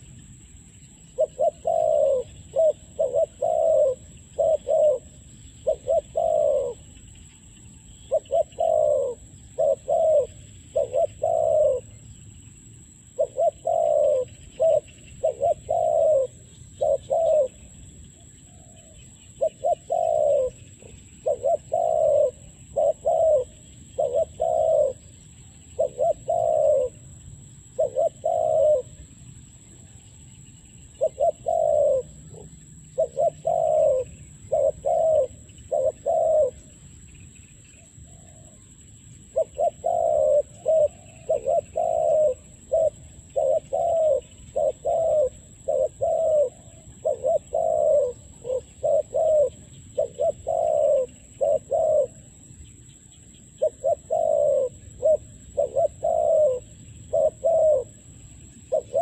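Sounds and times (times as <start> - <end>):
dove cooing: 0.9 - 12.1, 13.1 - 30.0, 30.8 - 37.1, 37.7 - 52.5, 53.4 - 59.0.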